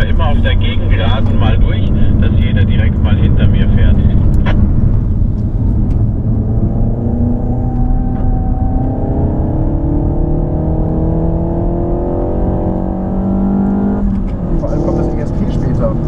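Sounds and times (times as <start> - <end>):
car engine accelerating: 0.0 - 16.0
low rumble: 0.0 - 16.0.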